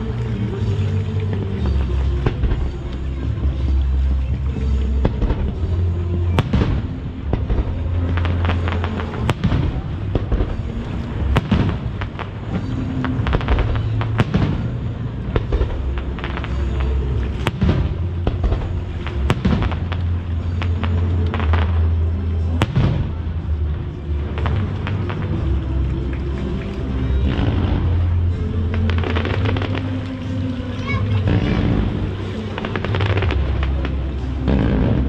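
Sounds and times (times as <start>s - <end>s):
firework crackle: 0.0s - 35.0s
music from loudspeakers: 0.0s - 35.0s.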